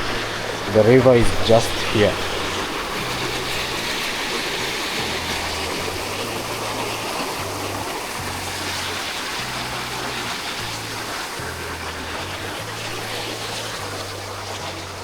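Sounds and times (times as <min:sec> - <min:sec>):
low bass music: 0:00.0 - 0:15.0
river water rushing: 0:00.0 - 0:15.0.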